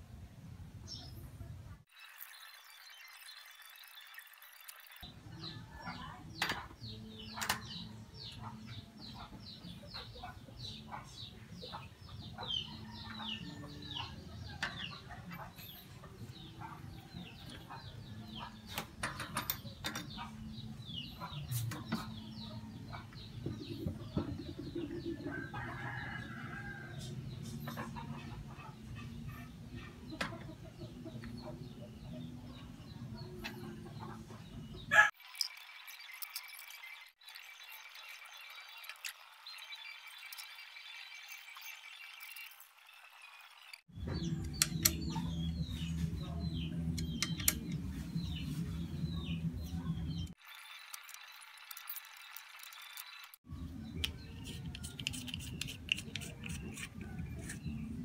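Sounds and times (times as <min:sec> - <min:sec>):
birds chirping: 0:00.8 - 0:58.0.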